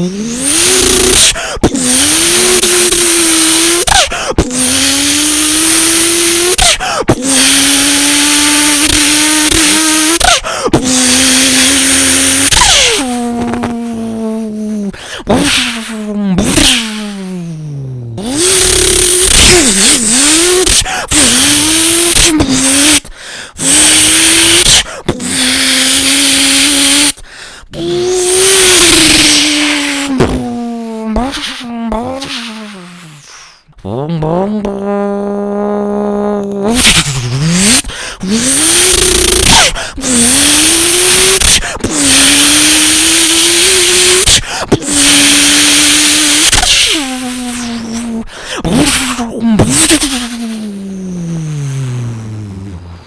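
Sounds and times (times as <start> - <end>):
person imitating engine revving: 0.0 - 53.0.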